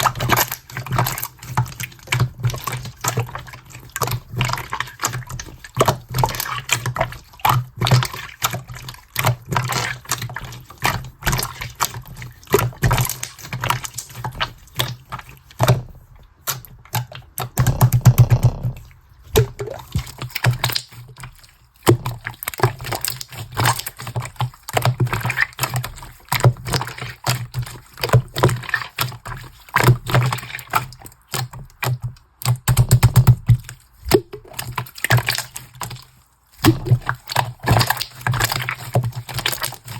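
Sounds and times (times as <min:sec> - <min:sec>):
slime squelching with sticky clicks: 0:00.0 - 0:39.9.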